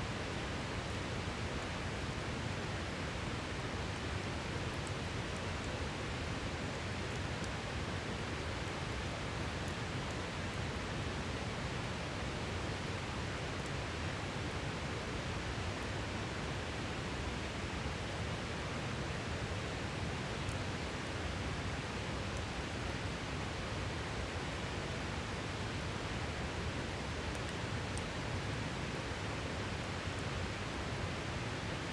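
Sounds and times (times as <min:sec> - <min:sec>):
campfire crackles: 0:00.2 - 0:31.9.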